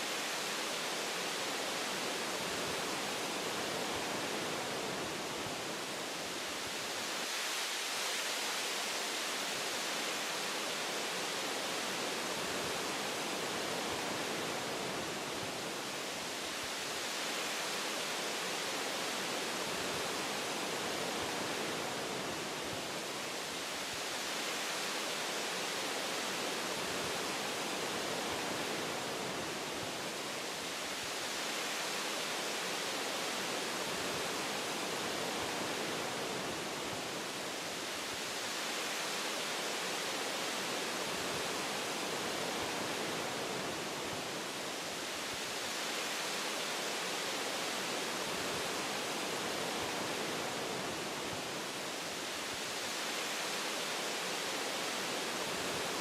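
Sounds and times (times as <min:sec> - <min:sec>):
wind through tree branches: 0:00.0 - 0:56.0.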